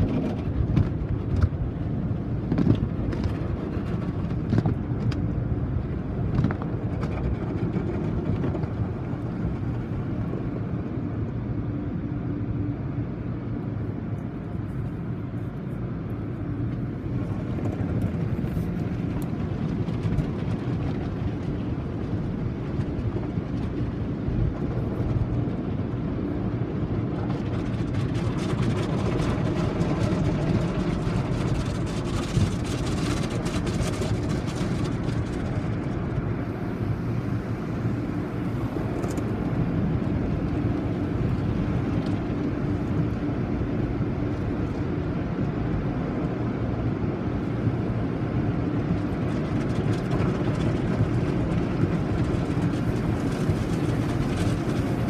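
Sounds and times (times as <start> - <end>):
car wash equipment rumbling: 0.0 - 55.0.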